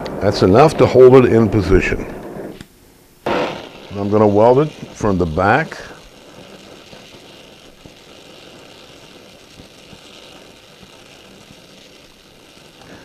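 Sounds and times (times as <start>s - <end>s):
welding torch flame hissing: 0.0s - 13.0s.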